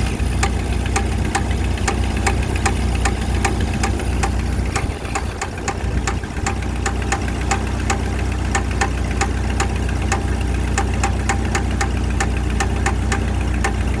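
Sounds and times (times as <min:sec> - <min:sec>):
engine idling with regular tick: 0:00.0 - 0:14.0.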